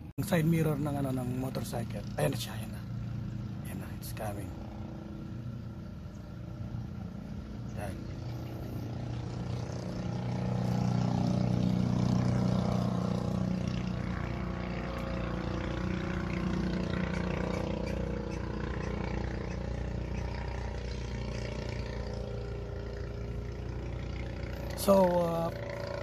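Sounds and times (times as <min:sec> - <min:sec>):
motor engine drone: 0:00.0 - 0:26.0.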